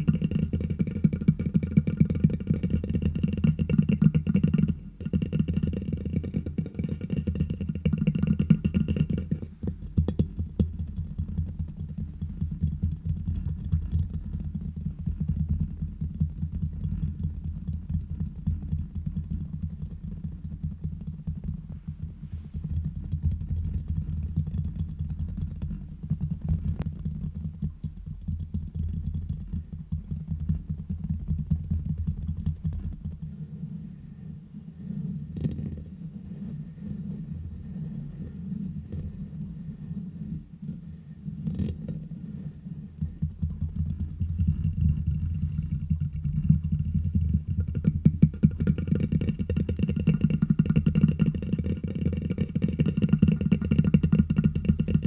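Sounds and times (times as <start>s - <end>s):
fingers tapping on microphone: 0.0s - 33.4s, 43.0s - 55.0s.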